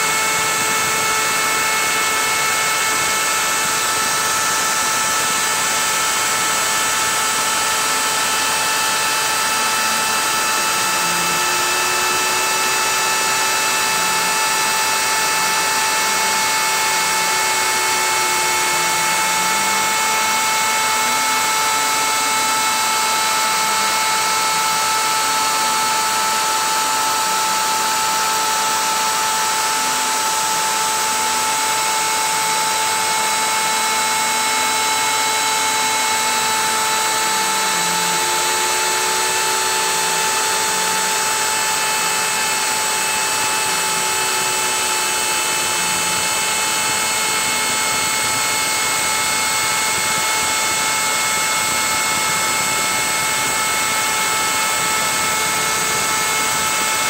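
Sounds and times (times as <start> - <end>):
router spindle high whine: 0.0 - 57.0.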